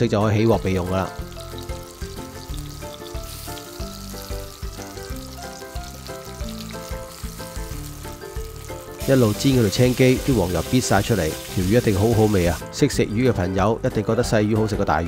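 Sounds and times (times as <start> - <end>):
background music: 0.0 - 15.0
fish sizzling in oil: 0.6 - 12.7.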